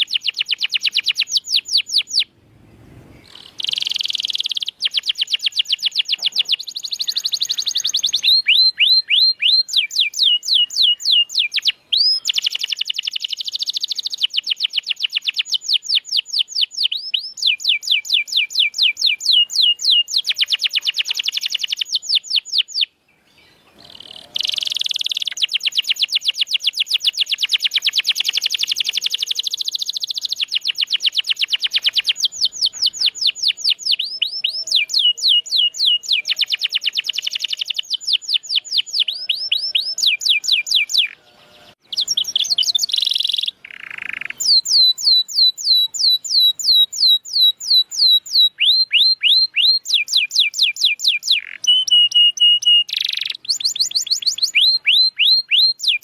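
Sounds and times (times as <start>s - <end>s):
canary singing trills: 0.0s - 2.4s, 3.1s - 56.0s.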